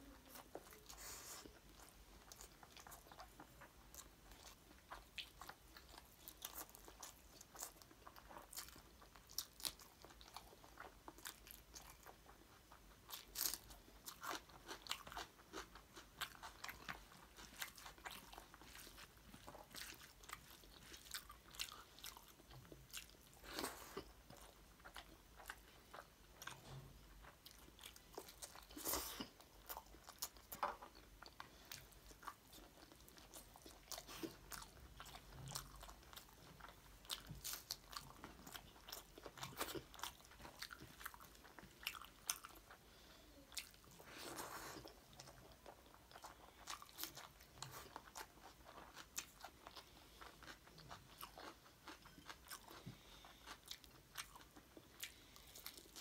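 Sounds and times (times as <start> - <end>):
person chewing: 0.2 - 56.0.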